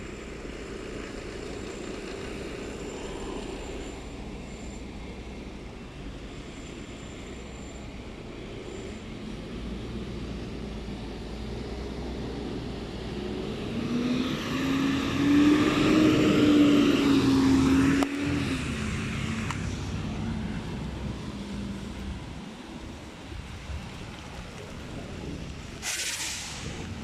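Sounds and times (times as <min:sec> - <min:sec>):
truck diesel engine driving past: 0:00.0 - 0:27.0.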